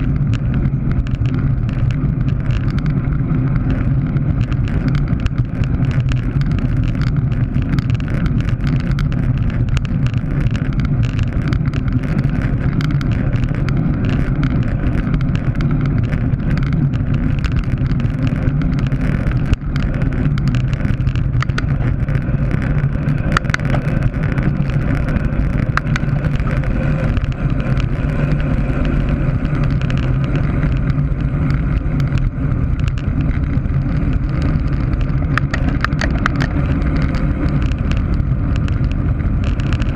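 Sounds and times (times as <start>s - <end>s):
bicycle clicks and rattles: 0.0s - 39.9s
tyre and road noise: 0.0s - 39.9s
wind rushing over microphone: 0.0s - 39.9s.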